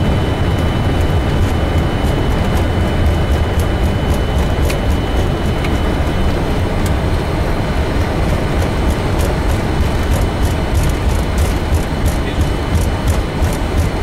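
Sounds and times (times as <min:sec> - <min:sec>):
deep rumble of jet on runway: 0:00.0 - 0:14.0.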